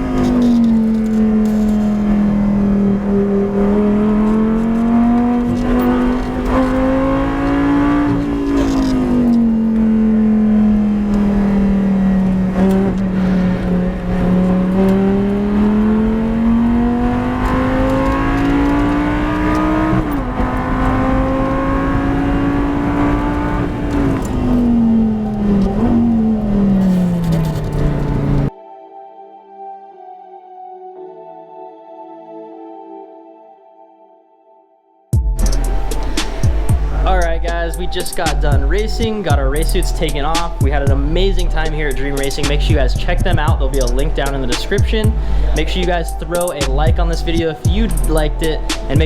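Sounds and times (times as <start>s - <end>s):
race car engine revving: 0.0s - 28.5s, 35.3s - 49.0s.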